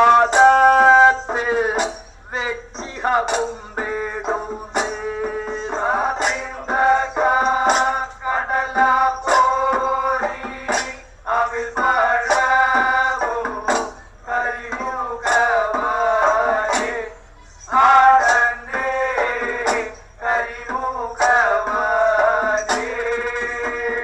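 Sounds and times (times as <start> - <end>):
man singing: 0.0 - 24.0
sharp percussion strikes: 0.0 - 24.0.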